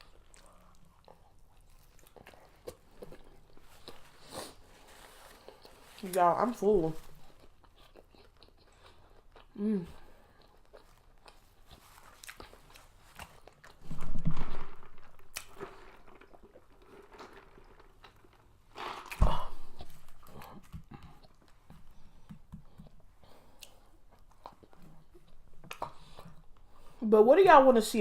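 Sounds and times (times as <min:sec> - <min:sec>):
chewing with crunchy clicks: 0:00.0 - 0:04.3, 0:05.2 - 0:06.3, 0:07.0 - 0:14.1, 0:14.8 - 0:26.9.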